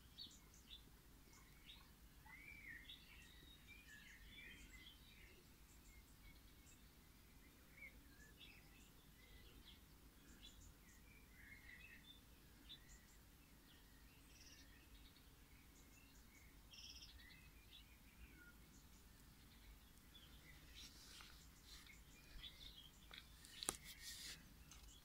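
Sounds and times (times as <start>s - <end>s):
faint bird chirps: 0.0s - 25.0s
outdoor background noise: 0.0s - 25.0s.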